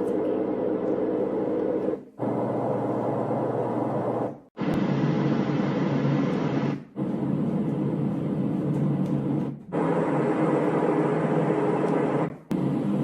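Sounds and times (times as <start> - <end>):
white noise machine rushing noise: 0.0 - 13.0.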